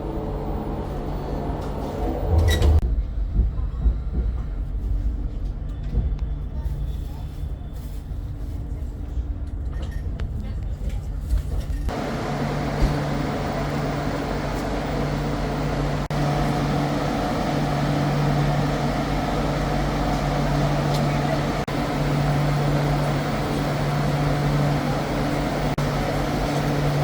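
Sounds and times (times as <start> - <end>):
passenger train humming: 0.0 - 10.0, 11.7 - 27.0.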